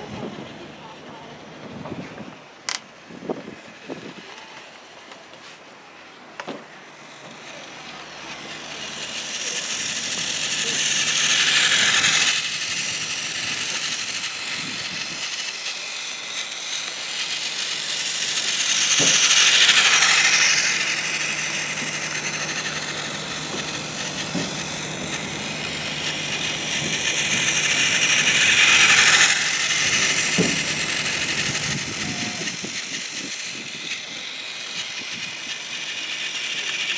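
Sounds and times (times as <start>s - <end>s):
toy train running on track: 0.0s - 36.9s.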